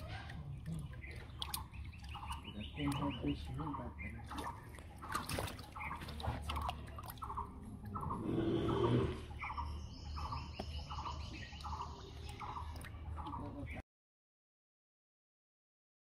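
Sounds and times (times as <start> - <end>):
fish splashing water: 0.0 - 8.4, 9.3 - 13.8.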